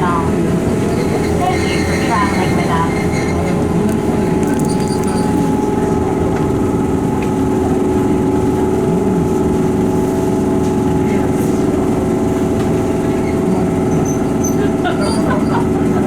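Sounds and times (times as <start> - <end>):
electric train hum: 0.0 - 16.0.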